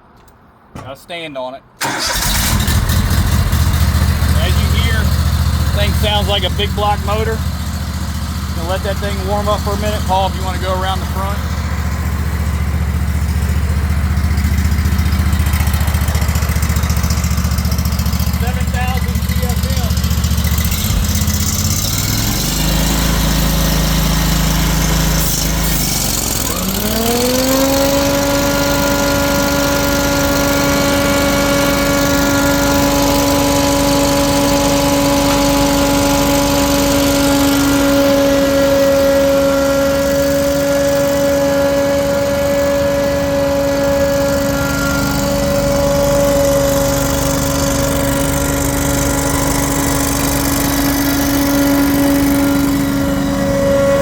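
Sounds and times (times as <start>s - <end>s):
blower engine idling and revving: 1.8s - 54.0s
blower whine: 1.8s - 54.0s.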